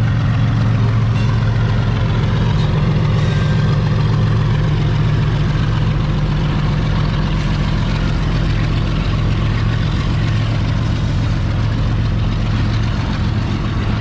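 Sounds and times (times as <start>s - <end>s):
heavy engine running: 0.0s - 14.0s.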